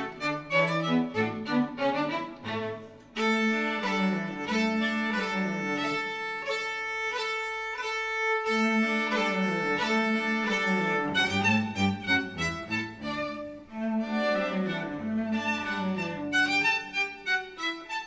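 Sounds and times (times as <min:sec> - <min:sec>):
slow bowed violin melody: 0:00.0 - 0:18.0.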